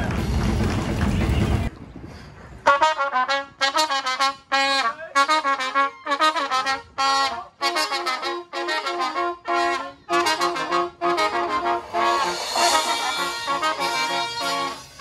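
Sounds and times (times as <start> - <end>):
brass band horns playing: 2.7 - 15.0.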